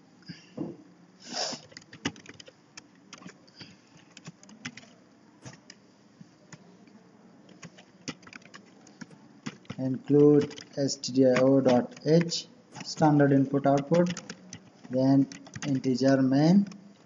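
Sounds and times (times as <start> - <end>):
keyboard typing: 1.3 - 5.8, 7.5 - 17.0.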